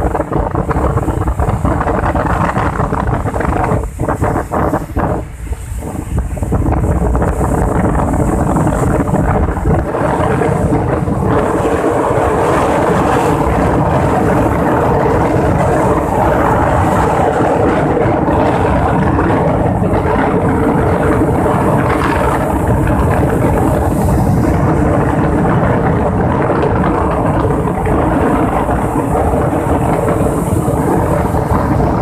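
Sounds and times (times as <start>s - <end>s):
rough sea surf breaking: 0.0s - 32.0s
wind buffeting microphone: 0.0s - 32.0s.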